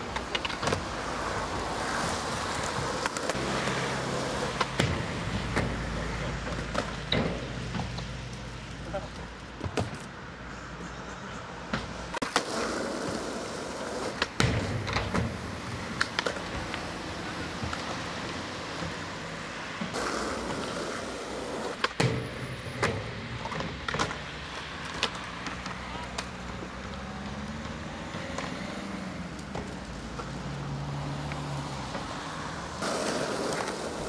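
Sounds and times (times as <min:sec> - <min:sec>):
skateboard clacks: 0:00.0 - 0:10.1, 0:11.7 - 0:19.0, 0:19.8 - 0:30.4, 0:32.8 - 0:34.0
skateboard rolling on concrete: 0:00.0 - 0:34.0.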